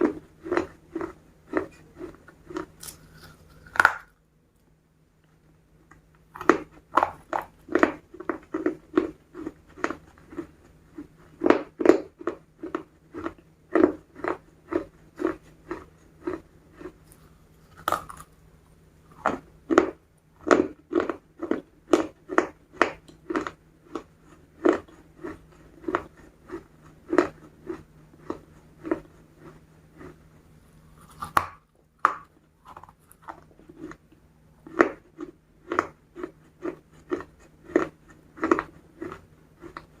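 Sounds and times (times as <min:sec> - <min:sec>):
crunching fried chicken: 0:00.0 - 0:04.2, 0:05.9 - 0:18.5, 0:19.1 - 0:40.0.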